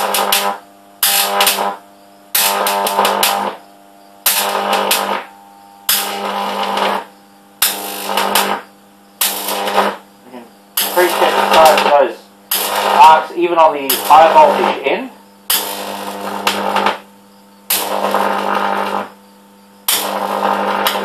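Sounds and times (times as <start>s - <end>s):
electric arc buzzing and crackling: 0.0s - 21.0s.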